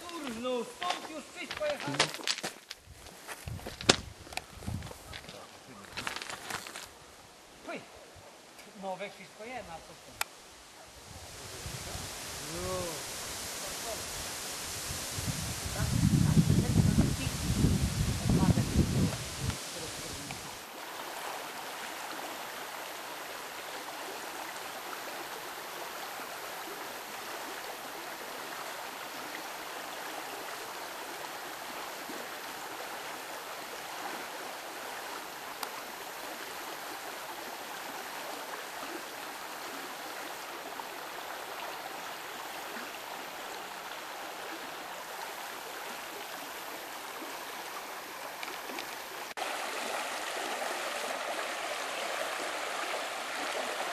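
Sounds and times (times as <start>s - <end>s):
stream flowing over stones: 0.0s - 53.9s.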